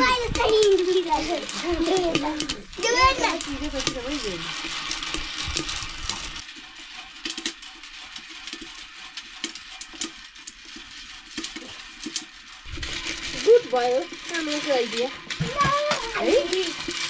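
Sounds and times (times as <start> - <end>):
corn kernels popping in pan: 0.0 - 17.0.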